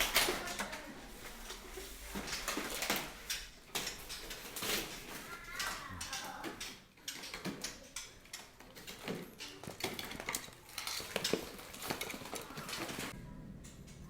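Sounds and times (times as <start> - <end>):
birds clattering in cages: 0.0 - 14.0.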